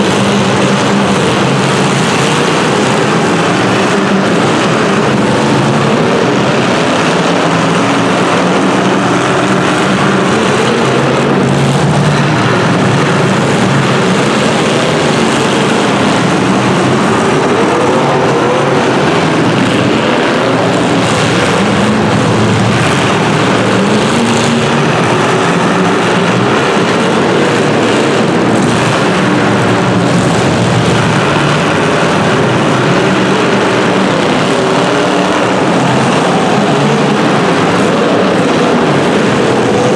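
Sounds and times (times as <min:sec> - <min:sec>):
racing engines revving: 0:00.0 - 0:39.9.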